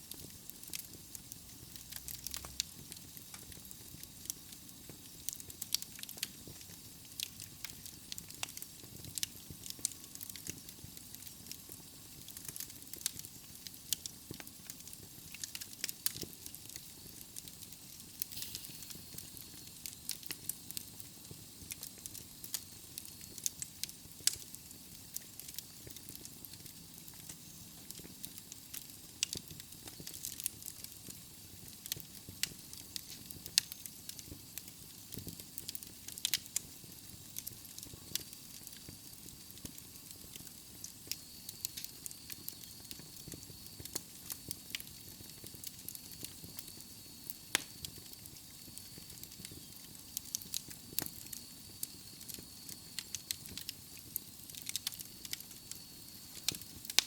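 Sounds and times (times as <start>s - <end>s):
soft steady hiss: 0.0s - 57.0s
logs crackling and popping: 0.1s - 57.0s.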